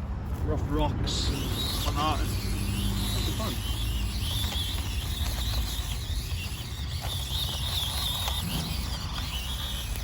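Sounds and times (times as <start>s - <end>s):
small electric motor whining: 0.2s - 10.0s.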